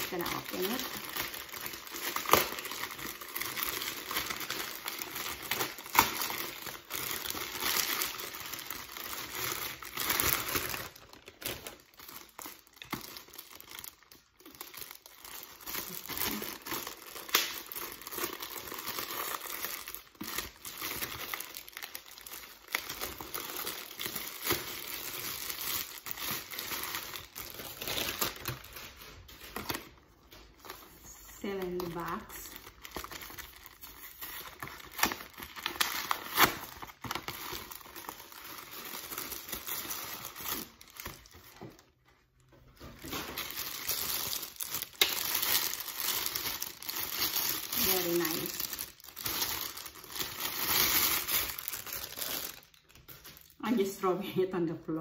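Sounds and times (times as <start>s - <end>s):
plastic packaging crinkling: 0.0s - 54.0s.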